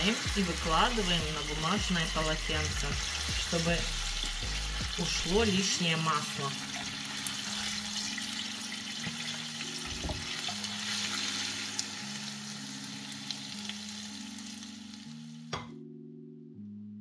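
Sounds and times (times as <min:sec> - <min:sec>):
food sizzling in oil: 0:00.0 - 0:15.6
soft background music: 0:00.0 - 0:17.0.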